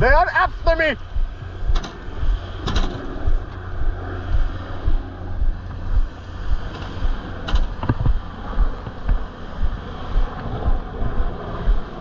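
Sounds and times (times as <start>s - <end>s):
vehicle engine low pulsing rumble: 0.0s - 12.0s.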